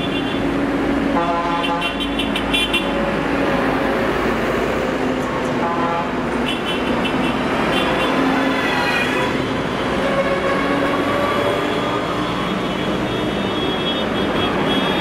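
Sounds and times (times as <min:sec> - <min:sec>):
tractor diesel engines passing: 0:00.0 - 0:15.0.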